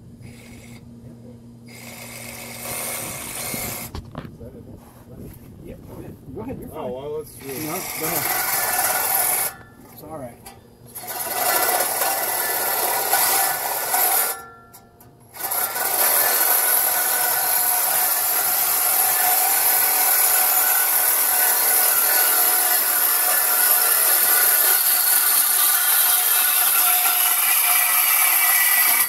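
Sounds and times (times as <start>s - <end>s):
reciprocating saw cutting metal pipe: 0.2s - 0.8s, 1.7s - 3.9s, 7.3s - 29.0s.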